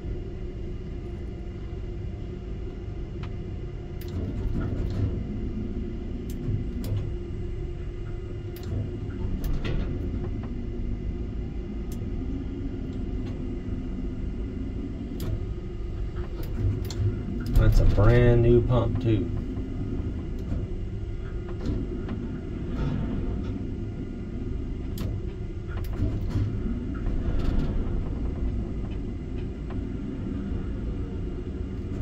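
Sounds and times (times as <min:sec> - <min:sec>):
crane hoist rumble and hum: 0:00.0 - 0:32.0.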